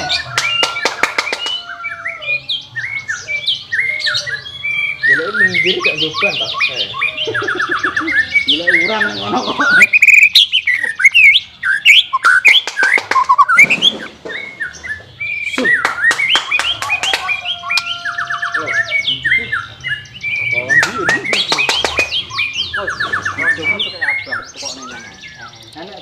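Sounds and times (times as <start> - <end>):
bird singing whistles and trills: 0.0 - 26.0.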